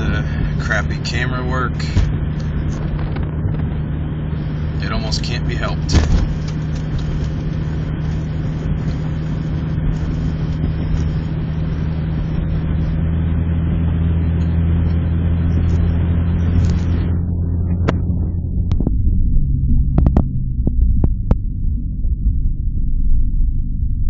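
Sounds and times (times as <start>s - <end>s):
car engine drone from inside: 0.0s - 24.0s
road and wind noise: 0.0s - 24.0s.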